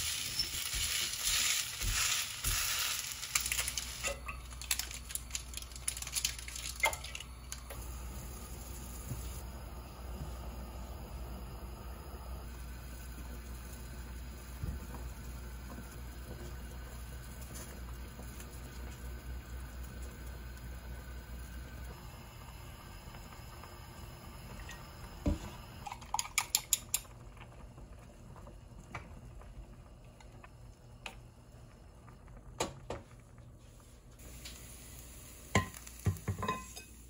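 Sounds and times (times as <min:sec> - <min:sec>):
gas burner hum: 0:00.0 - 0:37.0.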